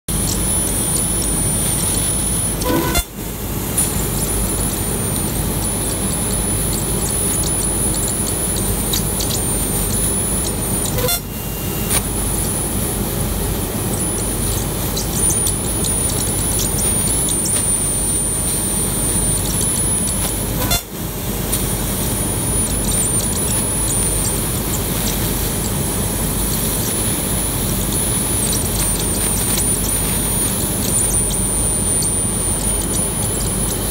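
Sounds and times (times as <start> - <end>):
thin high whine: 0.1 - 13.0, 13.7 - 33.9
laser cutter machine noise: 0.1 - 33.9.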